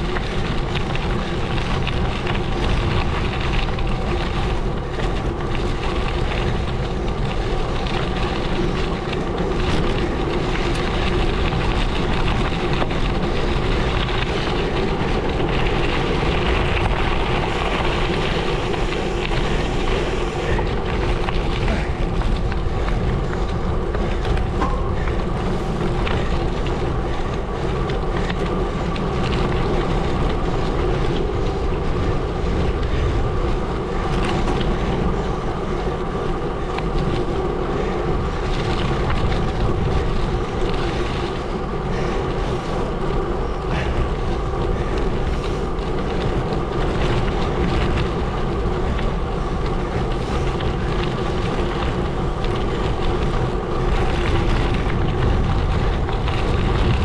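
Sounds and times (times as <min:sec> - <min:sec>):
tyres crunching on gravel: 0:00.0 - 0:57.0
wind noise on microphone: 0:00.0 - 0:57.0.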